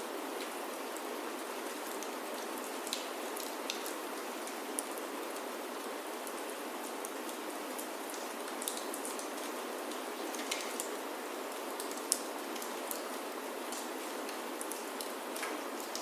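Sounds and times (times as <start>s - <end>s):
rain falling on a roof: 0.0s - 16.0s
crackling wood fire: 1.6s - 16.0s.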